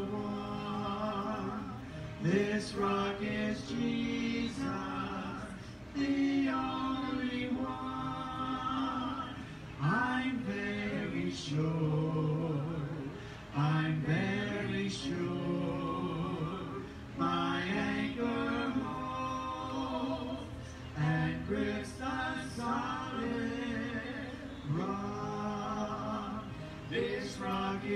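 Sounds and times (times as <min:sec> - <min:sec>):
voices singing a hymn: 0:00.0 - 0:27.9.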